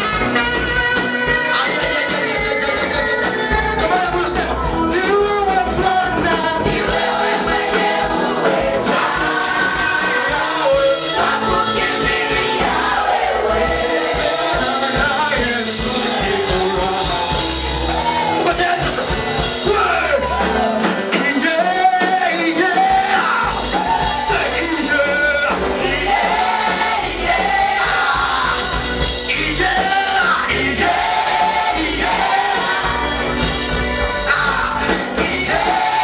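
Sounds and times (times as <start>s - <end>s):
band with bass: 0.0s - 36.0s
voices singing gospel: 0.0s - 36.0s.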